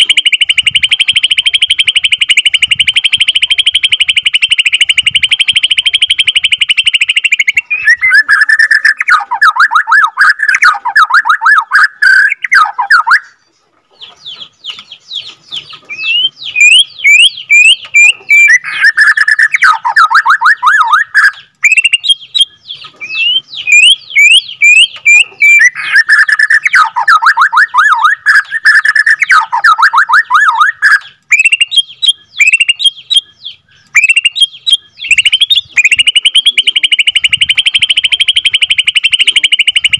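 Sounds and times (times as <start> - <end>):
songbird singing rolling song: 0.0 - 39.9.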